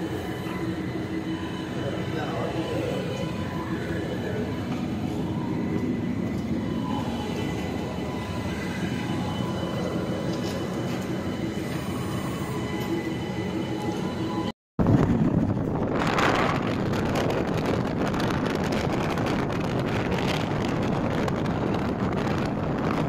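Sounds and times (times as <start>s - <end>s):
faint whining tones: 0.0s - 23.0s
train rumble: 0.0s - 23.0s.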